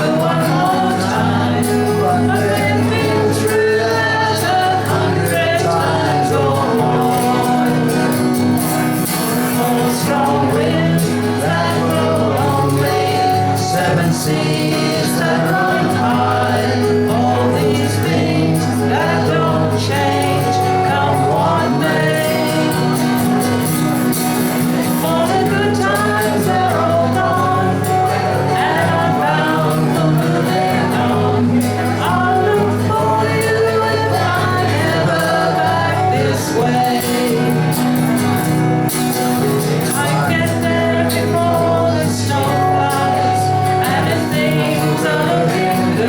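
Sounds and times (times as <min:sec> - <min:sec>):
folk song singing with instruments: 0:00.0 - 0:46.0.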